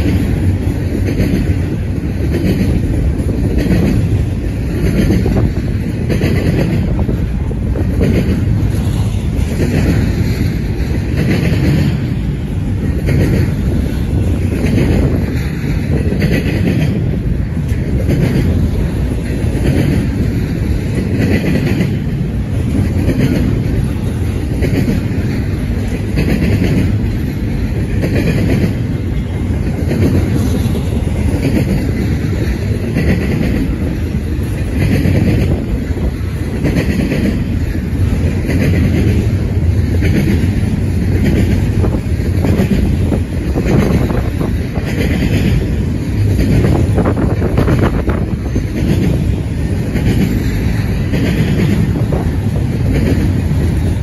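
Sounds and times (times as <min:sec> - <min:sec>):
clickety-clack of rail joints: 0:00.0 - 0:54.0
train wheels rumbling on rails: 0:00.0 - 0:54.0.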